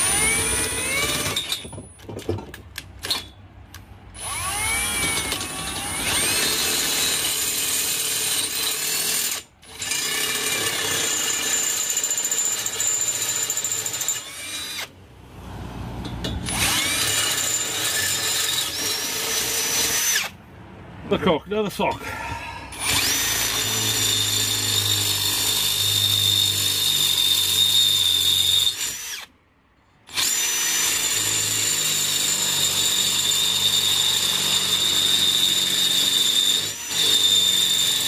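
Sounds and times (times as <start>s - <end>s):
electric drill whining: 0.0s - 1.7s, 4.2s - 14.9s, 16.5s - 20.3s, 22.7s - 29.3s, 30.1s - 38.0s.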